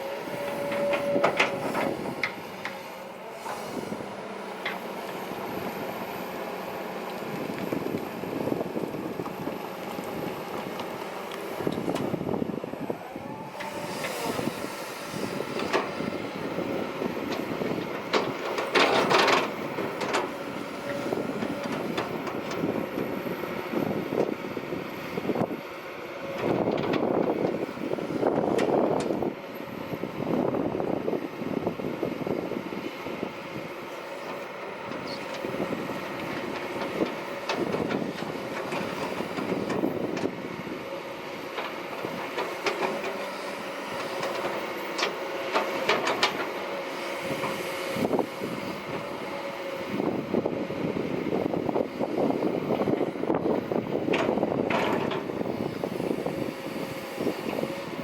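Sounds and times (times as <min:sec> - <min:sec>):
excavator diesel engine under load: 0:00.0 - 0:58.0
hydraulic whine: 0:00.0 - 0:58.0.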